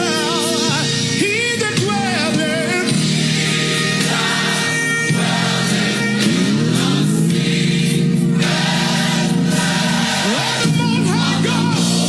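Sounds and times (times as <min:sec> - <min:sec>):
gospel choir singing: 0:00.0 - 0:12.0
music: 0:00.0 - 0:12.0.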